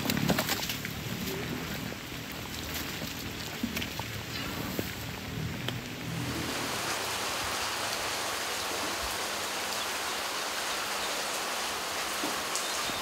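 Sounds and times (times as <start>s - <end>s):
heavy rain hiss: 0.2s - 13.0s.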